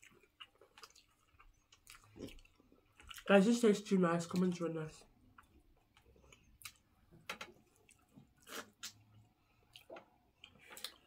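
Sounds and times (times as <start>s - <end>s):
people chewing: 0.0s - 3.3s, 5.1s - 11.0s.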